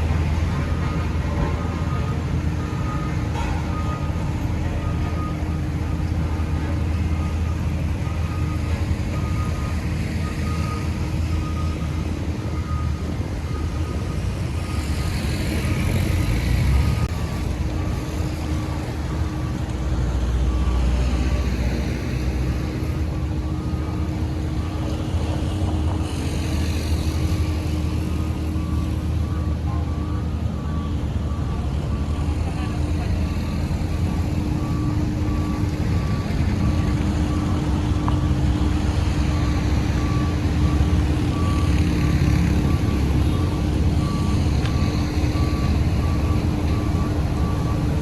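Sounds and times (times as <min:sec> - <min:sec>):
diesel engines droning: 0:00.0 - 0:48.0.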